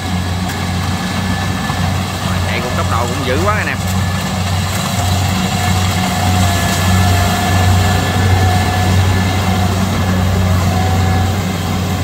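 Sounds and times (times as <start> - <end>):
combine harvester engine drone: 0.0 - 12.0
machinery whine: 0.0 - 12.0.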